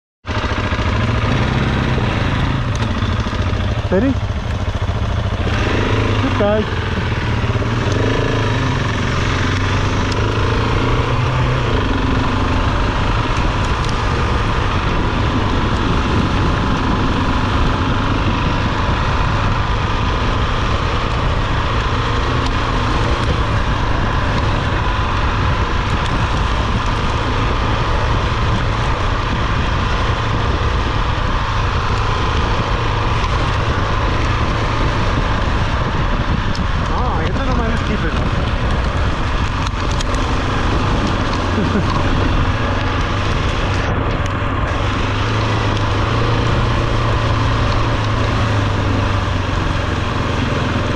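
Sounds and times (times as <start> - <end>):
constant noisy rush: 0.2 - 50.9
motorcycle engine running: 0.2 - 50.9.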